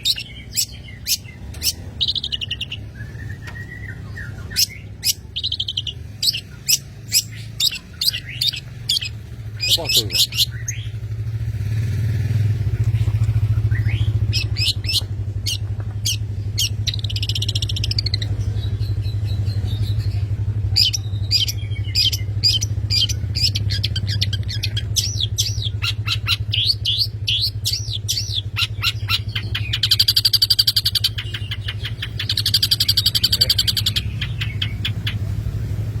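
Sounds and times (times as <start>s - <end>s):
bird singing sharp chirps: 0.0s - 11.2s, 12.8s - 35.6s.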